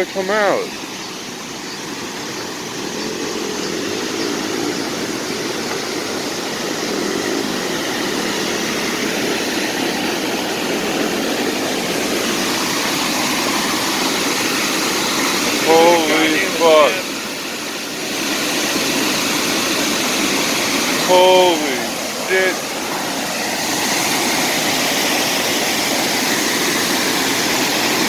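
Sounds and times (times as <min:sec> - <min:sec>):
waterfall roaring: 0:00.0 - 0:28.0.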